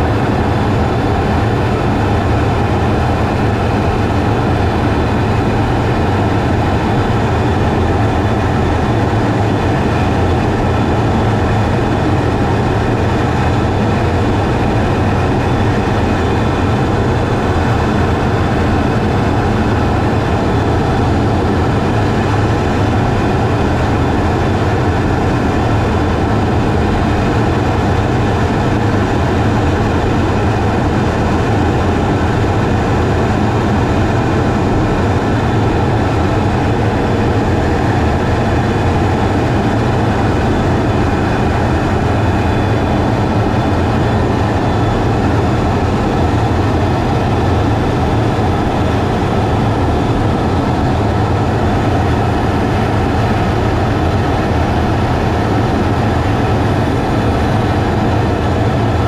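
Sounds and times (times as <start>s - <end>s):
faint steady whining tones: 0.0s - 59.0s
jet engine and airflow rumble: 0.0s - 59.0s.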